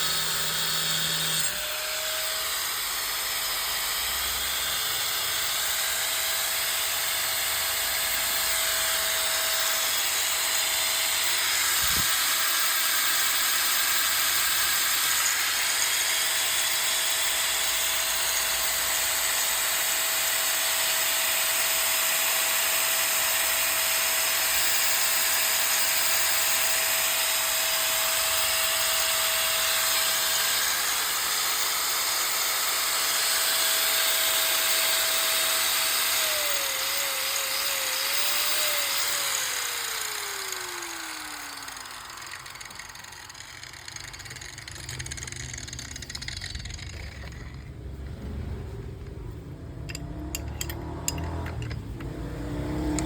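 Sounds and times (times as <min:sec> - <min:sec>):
angle grinder whining: 0:00.0 - 0:53.0.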